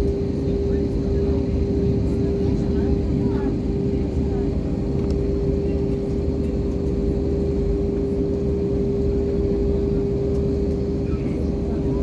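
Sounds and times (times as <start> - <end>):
constant hum tone: 0.0 - 12.0
jet cabin engine rumble: 0.0 - 12.0.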